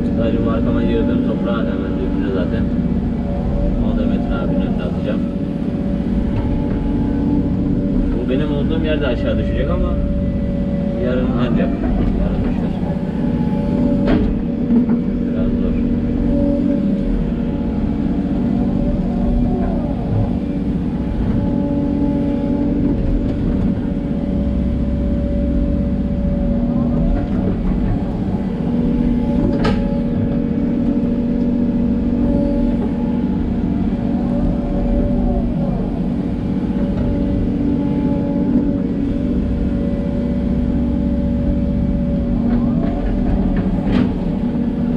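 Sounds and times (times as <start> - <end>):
excavator diesel engine running: 0.0 - 44.9
hydraulic whine: 0.0 - 44.9.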